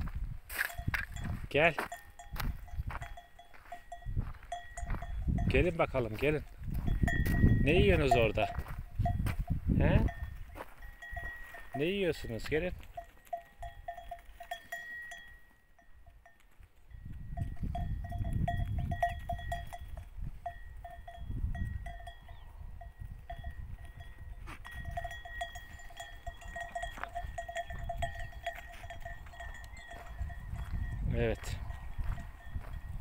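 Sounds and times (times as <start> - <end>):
goat bells jingling: 0.5 - 33.0.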